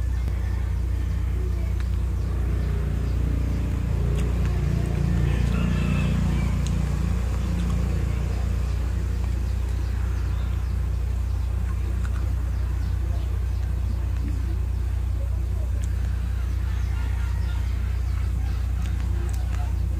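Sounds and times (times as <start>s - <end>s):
motor rumbling: 0.0s - 19.9s.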